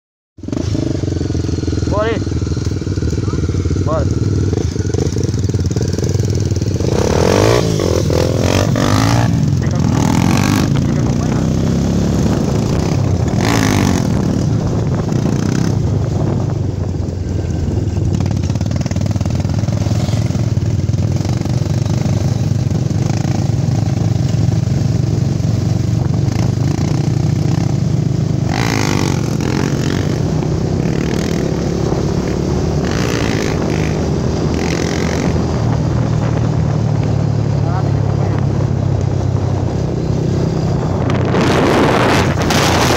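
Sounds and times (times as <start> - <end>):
motorcycle engine running: 0.4 - 42.9
rushes of noise: 0.4 - 42.9.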